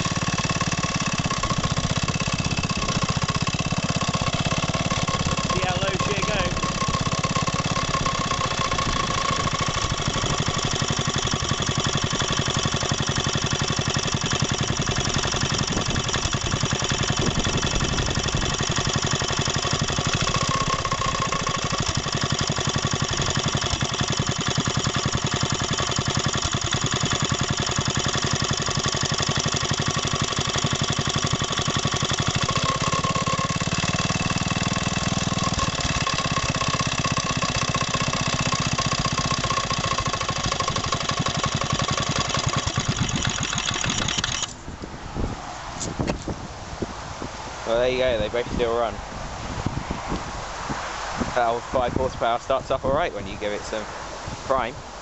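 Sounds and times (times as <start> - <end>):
small engines idling: 0.0 - 44.8, 51.2 - 55.0.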